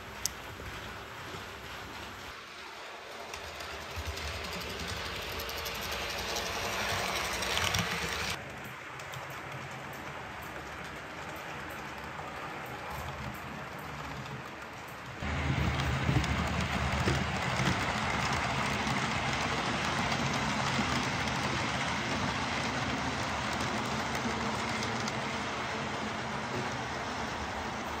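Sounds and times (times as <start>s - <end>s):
model train rumbling on track: 0.0s - 28.0s.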